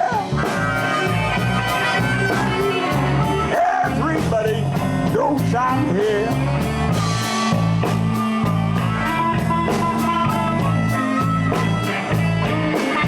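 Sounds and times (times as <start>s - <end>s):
bass guitar: 0.0s - 13.0s
drum kit hits: 0.0s - 13.0s
electric guitars: 0.0s - 13.0s.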